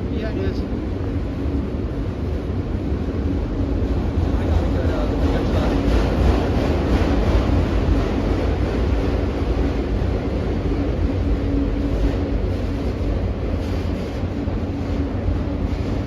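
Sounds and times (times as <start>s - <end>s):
freight train cars rumbling past: 0.0s - 16.0s.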